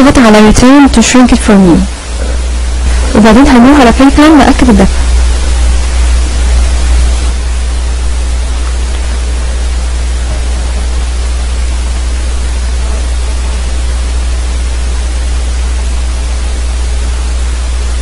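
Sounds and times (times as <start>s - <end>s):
constant low hum: 0.0s - 18.0s
steady loud hiss: 0.0s - 18.0s.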